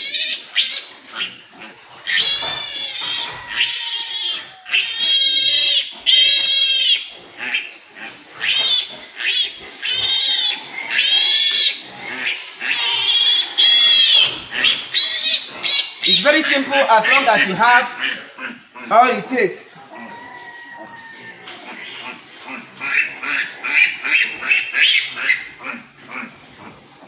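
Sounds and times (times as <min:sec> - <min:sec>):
piglet squealing: 0:00.0 - 0:19.2, 0:19.8 - 0:26.8.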